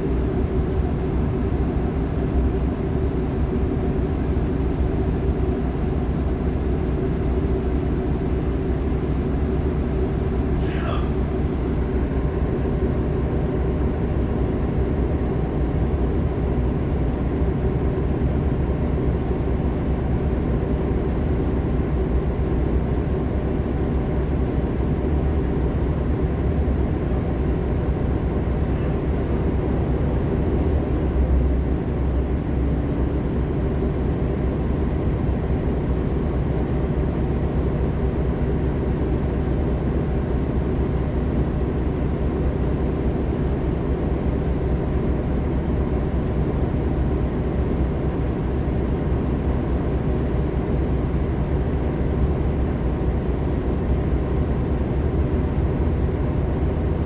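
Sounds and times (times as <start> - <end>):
bus engine low drone: 0.0 - 57.0.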